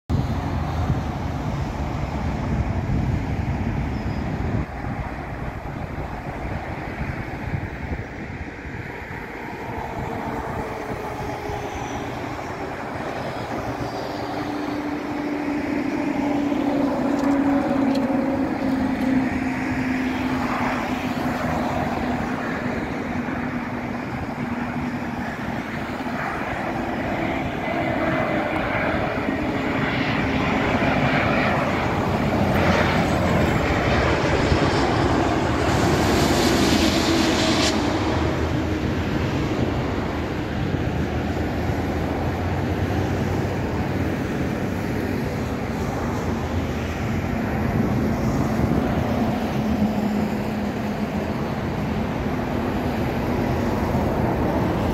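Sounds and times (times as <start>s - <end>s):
jet airliner engines rumbling: 0.1s - 54.9s.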